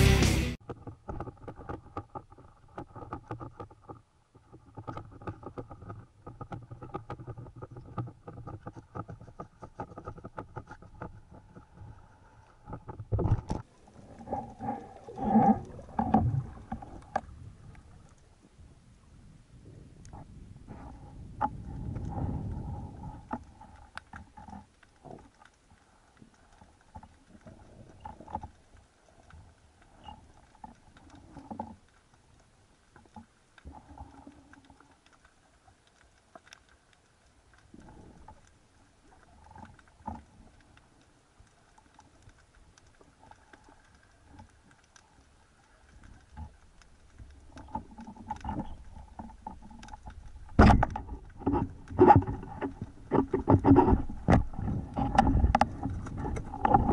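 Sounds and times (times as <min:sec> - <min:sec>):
underwater clicks and knocks: 0:00.6 - 0:18.2, 0:20.0 - 0:45.2, 0:45.8 - 0:56.9.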